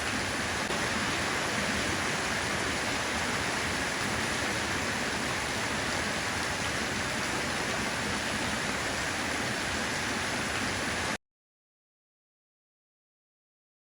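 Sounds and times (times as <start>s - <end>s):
steady rain falling: 0.0s - 11.2s.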